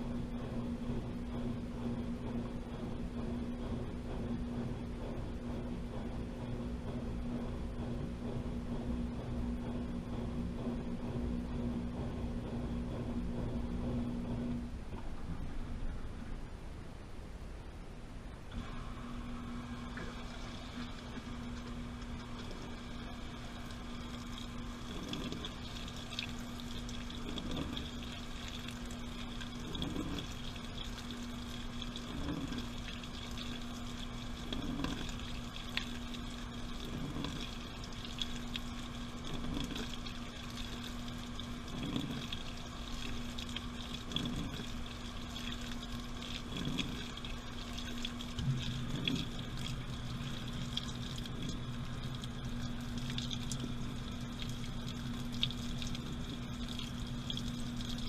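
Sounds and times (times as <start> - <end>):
water sloshing in washing machine: 0.0 - 16.3, 18.4 - 58.0
lower hum: 0.0 - 58.0
washing machine motor hum: 0.0 - 58.0.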